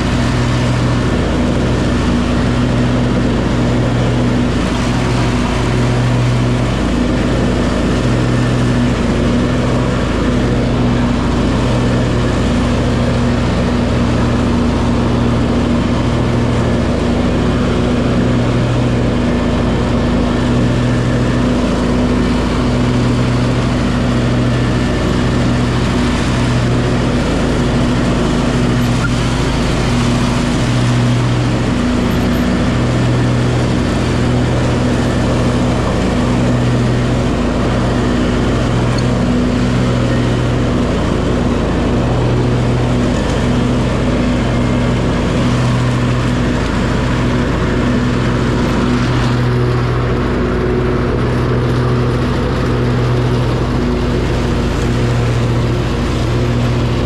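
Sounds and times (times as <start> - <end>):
mower blades cutting grass: 0.0 - 57.0
tractor engine droning: 0.0 - 57.0.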